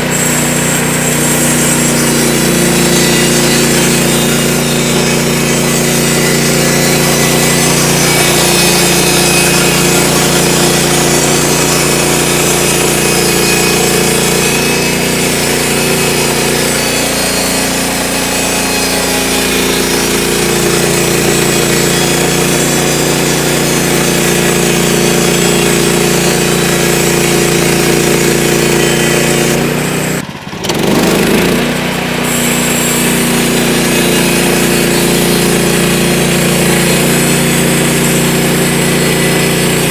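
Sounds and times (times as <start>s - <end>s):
saw blade cutting log: 0.0s - 39.9s
sawmill engine hum: 0.0s - 39.9s.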